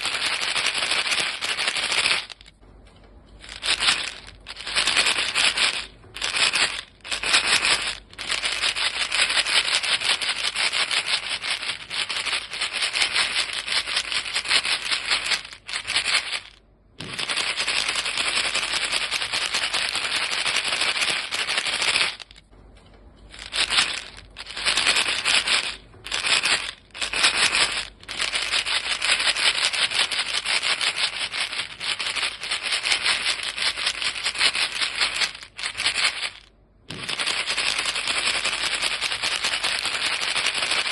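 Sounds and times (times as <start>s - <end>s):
gum pellets rattling in box: 0.0s - 2.6s, 3.4s - 22.5s, 23.3s - 40.9s.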